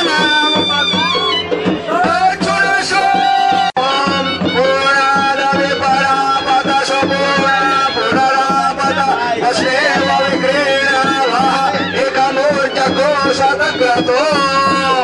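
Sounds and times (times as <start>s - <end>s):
devotional music with held notes: 0.0s - 15.0s.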